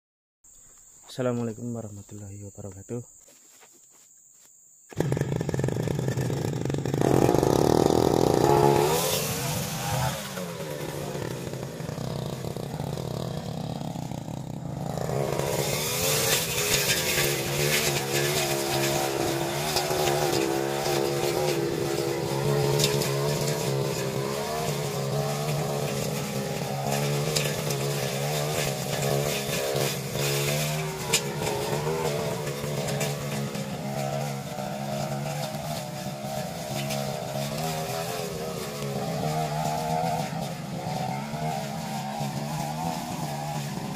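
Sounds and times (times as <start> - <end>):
brush cutter engine running: 4.9 - 43.9.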